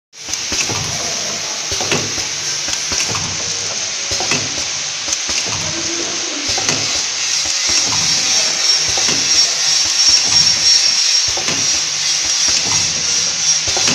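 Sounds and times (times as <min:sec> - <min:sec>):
machine high hiss: 0:00.2 - 0:13.9
mechanism clicks and knocks: 0:00.2 - 0:13.9.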